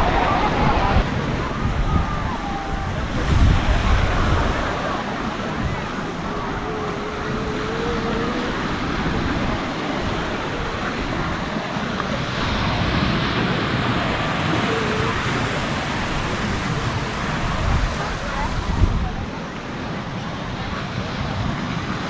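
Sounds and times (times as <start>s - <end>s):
waves washing onto a beach: 0.0s - 22.0s
wind: 0.0s - 22.0s.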